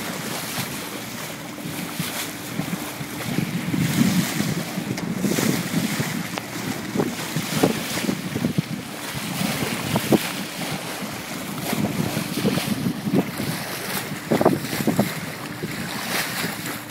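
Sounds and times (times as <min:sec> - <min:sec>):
water splashing along boat hull: 0:00.0 - 0:16.9
wind buffeting microphone: 0:00.0 - 0:16.9.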